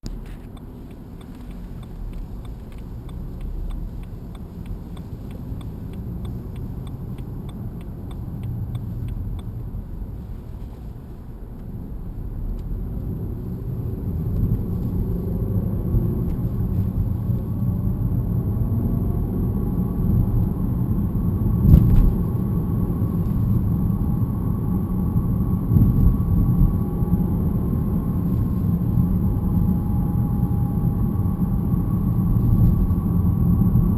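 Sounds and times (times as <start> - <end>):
road and tyre rumble: 0.0 - 33.9.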